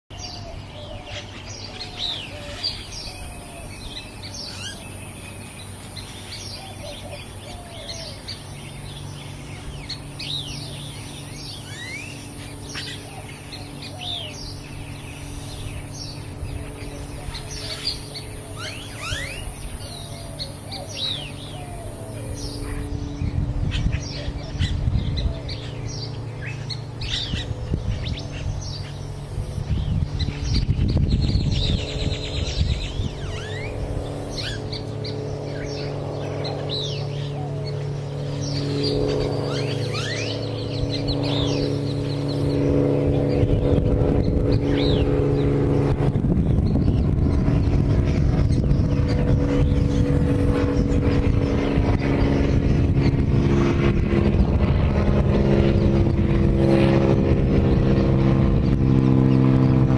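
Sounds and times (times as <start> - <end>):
low rumbling: 0.1 - 59.9
small birds chirping: 0.1 - 59.9
high-pitched buzz: 0.2 - 59.9.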